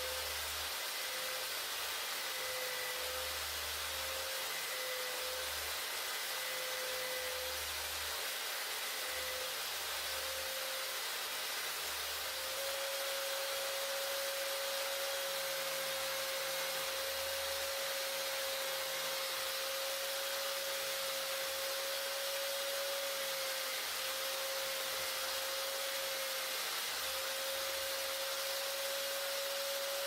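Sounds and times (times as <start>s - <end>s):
electric power tool whine: 0.0s - 30.0s.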